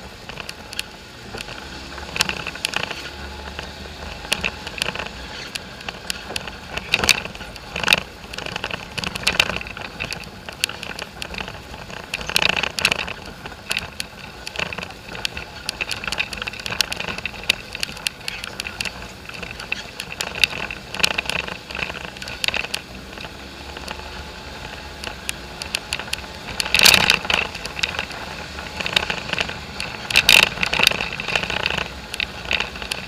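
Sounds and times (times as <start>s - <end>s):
body parts rattling and clattering: 0.0s - 33.0s
four-wheeler engine running: 0.0s - 33.0s.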